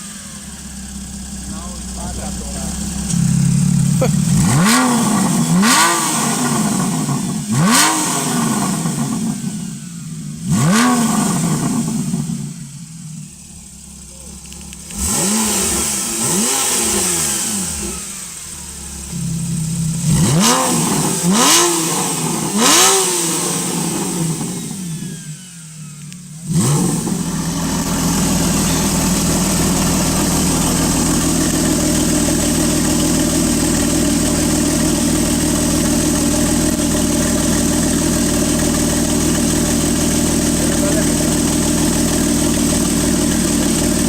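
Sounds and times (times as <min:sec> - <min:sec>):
car engine revving: 0:00.0 - 0:44.0
engine starting and idling: 0:00.0 - 0:44.0.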